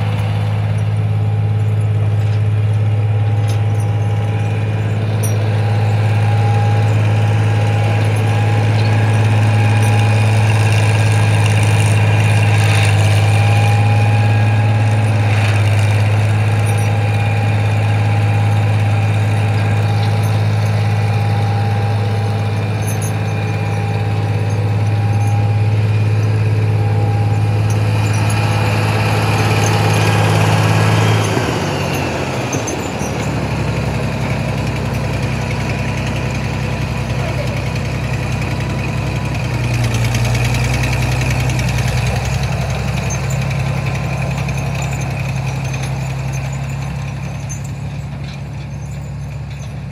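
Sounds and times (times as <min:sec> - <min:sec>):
engine running: 0:00.0 - 0:49.9
supercharger whine: 0:00.0 - 0:49.9.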